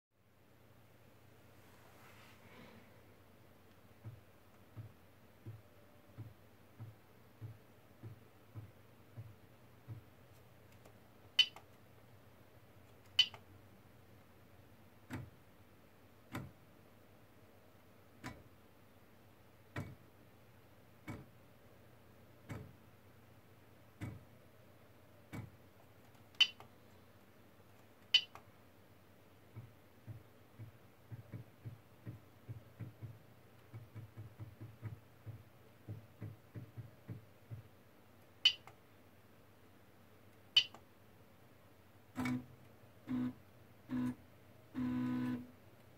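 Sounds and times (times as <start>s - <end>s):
low steady hum: 0.2s - 45.9s.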